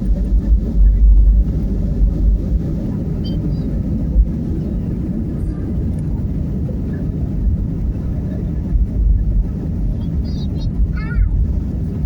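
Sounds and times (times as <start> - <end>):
airplane engines rumbling: 0.0 - 12.0.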